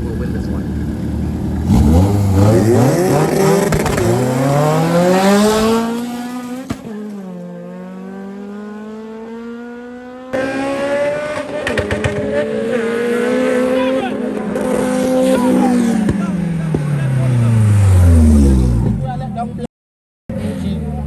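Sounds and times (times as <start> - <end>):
car engine revving hard: 0.0 - 19.1.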